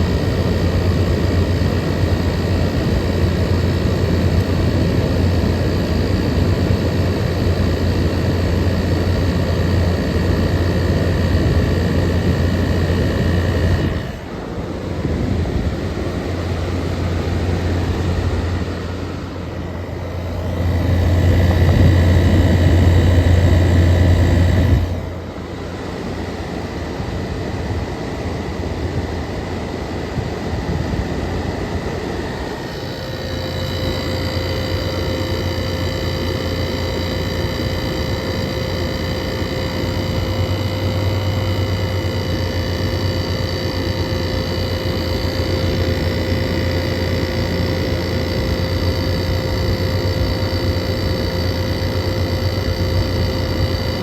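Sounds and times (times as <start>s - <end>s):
air conditioner hum: 0.0s - 54.0s
high-pitched whine: 0.0s - 54.0s.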